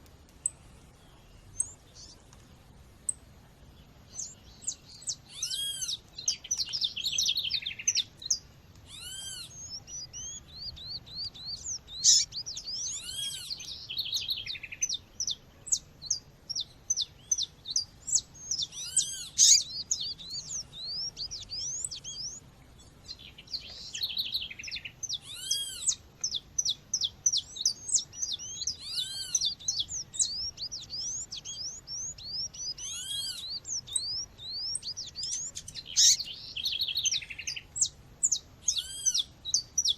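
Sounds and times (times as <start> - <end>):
chatter of bird chirps: 4.1 - 22.4, 23.1 - 39.9.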